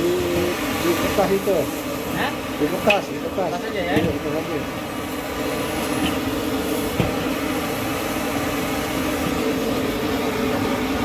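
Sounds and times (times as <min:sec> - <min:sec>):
gas flame and frying rushing: 0:00.0 - 0:11.0.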